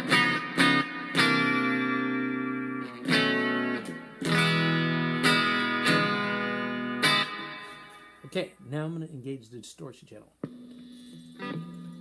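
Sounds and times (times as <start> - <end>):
clean electric guitar chords ringing: 0.0 - 8.3, 10.4 - 12.0.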